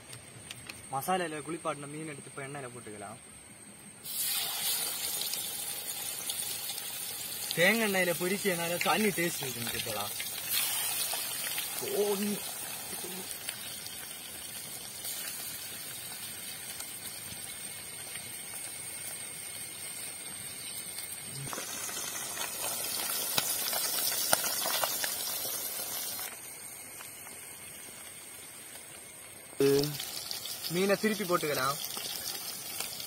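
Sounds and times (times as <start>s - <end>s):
fish deep-frying in oil: 4.0s - 33.0s.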